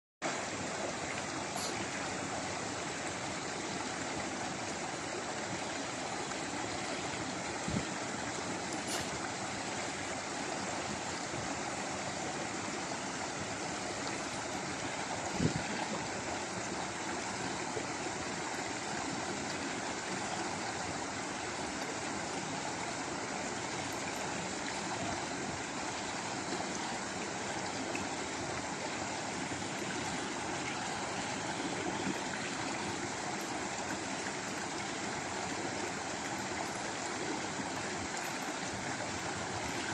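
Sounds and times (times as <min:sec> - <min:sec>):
stream water rushing: 0:00.2 - 0:39.9.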